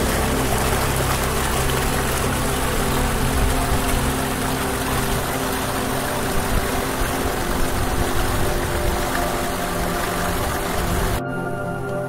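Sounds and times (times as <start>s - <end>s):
stream running water: 0.0s - 12.0s.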